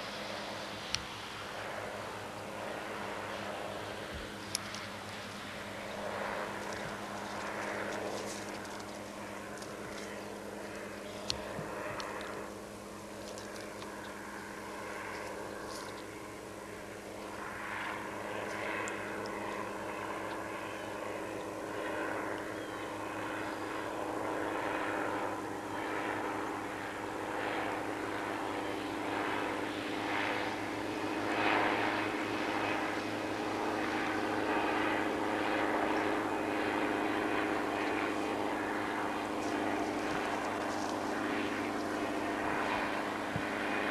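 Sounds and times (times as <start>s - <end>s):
helicopter engine and rotor drone: 0.0s - 43.9s.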